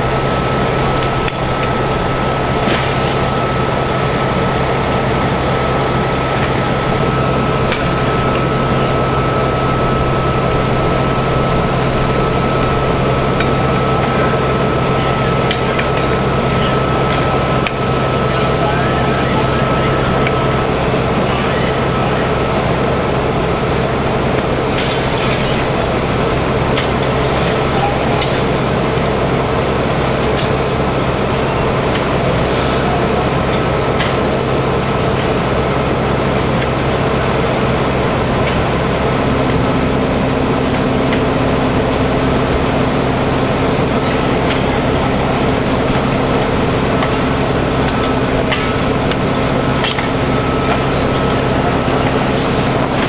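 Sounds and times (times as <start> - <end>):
fire engine pump droning: 0.0 - 53.0.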